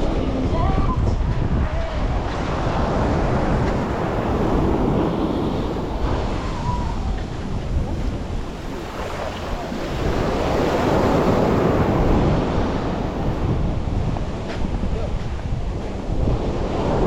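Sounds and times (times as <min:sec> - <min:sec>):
waves breaking on beach: 0:00.0 - 0:17.0
wind rumbling on microphone: 0:00.0 - 0:17.0.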